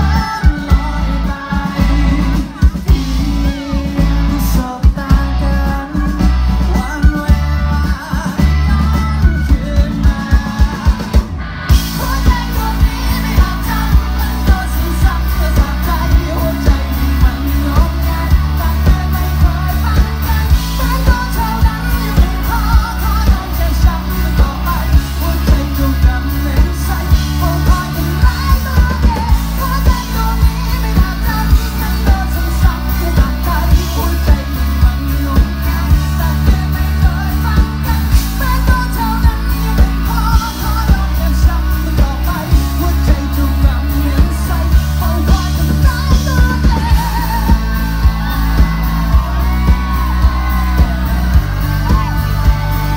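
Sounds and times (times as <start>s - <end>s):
man singing: 0.0s - 52.9s
rock band playing live: 0.0s - 52.9s
steady drum beat: 0.0s - 52.9s.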